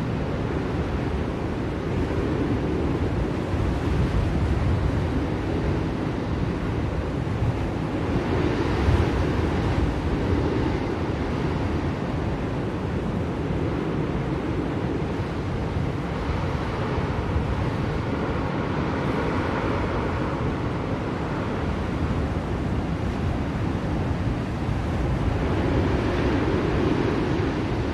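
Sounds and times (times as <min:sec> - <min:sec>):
blizzard wind blowing: 0:00.0 - 0:27.9.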